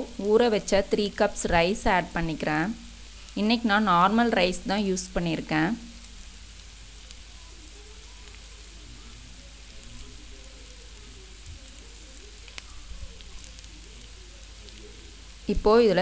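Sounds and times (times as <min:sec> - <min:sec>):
faint sizzle: 0:00.0 - 0:16.0.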